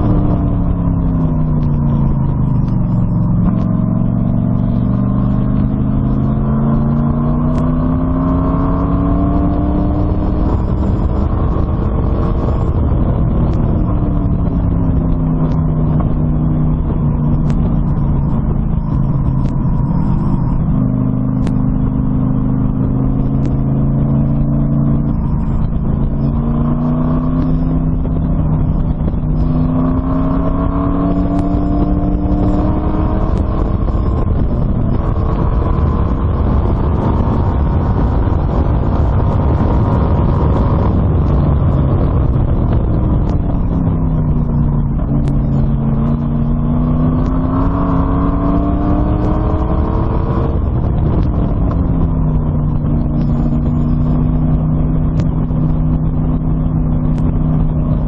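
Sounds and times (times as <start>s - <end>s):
race car engine revving: 0.0s - 58.0s
wind and road noise: 0.0s - 58.0s.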